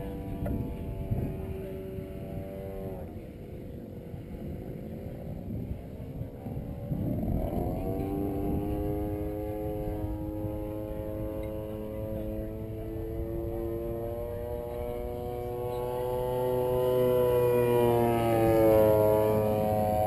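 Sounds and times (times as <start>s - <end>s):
model airplane engine drone: 0.0s - 20.0s
wind rumble on microphone: 0.0s - 20.0s.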